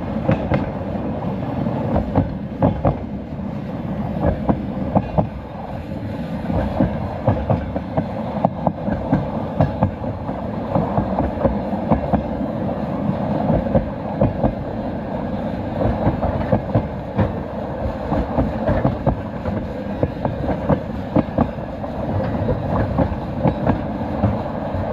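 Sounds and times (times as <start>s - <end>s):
train rumbling: 0.0s - 24.9s.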